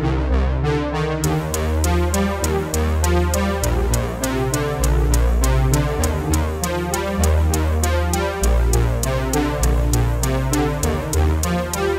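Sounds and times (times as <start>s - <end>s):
electronic music with synthesizer: 0.0s - 11.9s.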